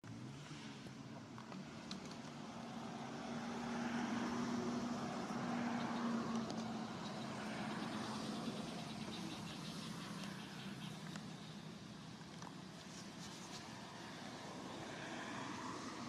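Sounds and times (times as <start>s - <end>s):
passing vehicle engine hum: 0.1s - 16.0s.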